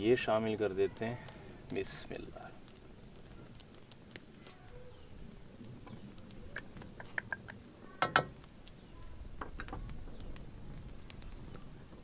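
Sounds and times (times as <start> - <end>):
small clicks and crackles: 0.0 - 12.0.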